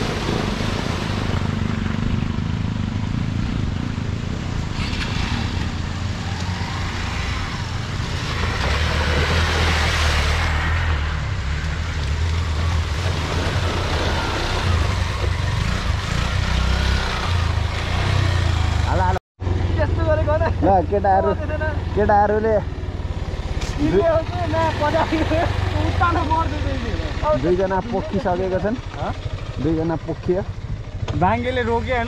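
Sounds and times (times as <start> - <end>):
motorcycle engine running: 0.0 - 9.6, 11.4 - 32.0
road and wind noise: 0.0 - 32.0.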